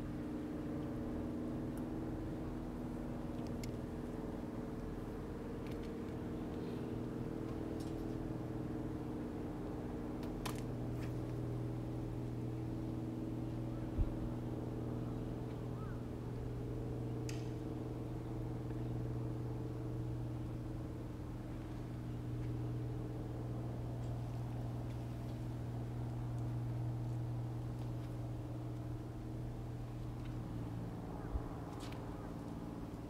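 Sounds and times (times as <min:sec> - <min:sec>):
low engine drone: 0:00.0 - 0:33.0.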